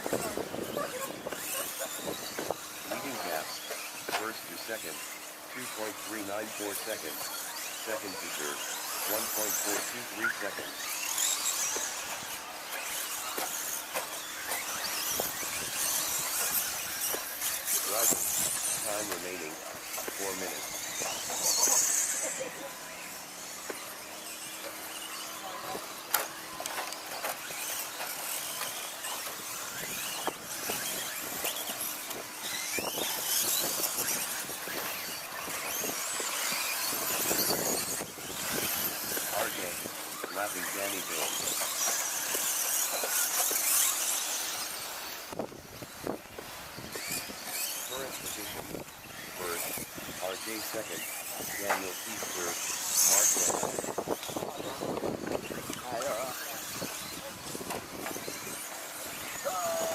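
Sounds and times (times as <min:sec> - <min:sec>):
radio-control trucks whining: 0:00.0 - 0:59.9.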